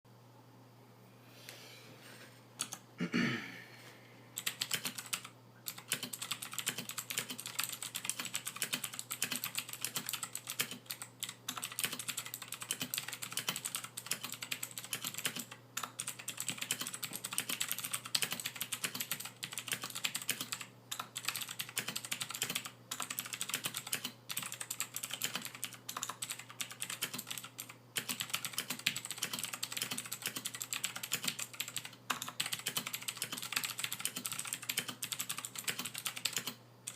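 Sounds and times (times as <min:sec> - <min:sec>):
mechanical keyboard typing: 0:02.6 - 0:02.8, 0:04.4 - 0:36.9.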